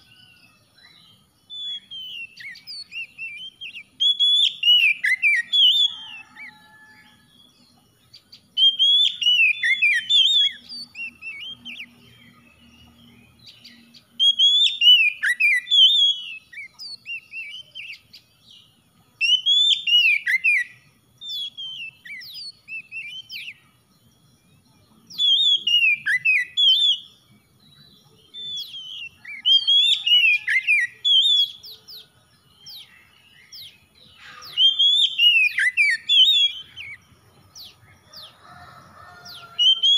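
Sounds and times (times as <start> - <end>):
bird singing whistled phrases: 0.1 - 7.1, 8.1 - 23.6, 25.1 - 38.3, 39.3 - 39.9.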